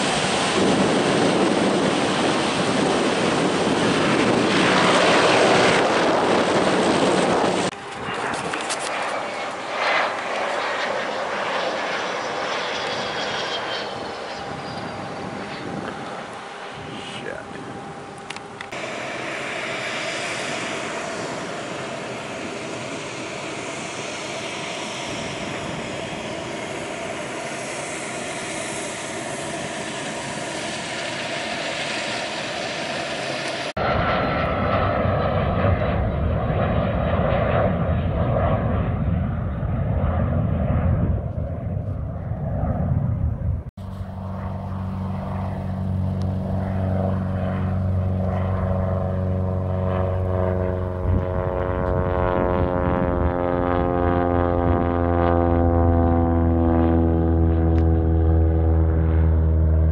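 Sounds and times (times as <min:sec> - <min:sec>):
propeller airplanes droning: 0:00.0 - 0:59.9.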